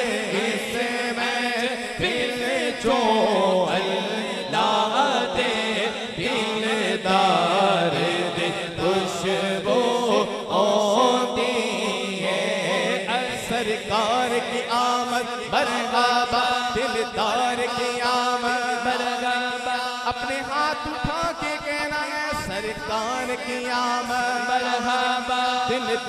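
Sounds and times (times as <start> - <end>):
man singing devotional song: 0.0 - 26.0.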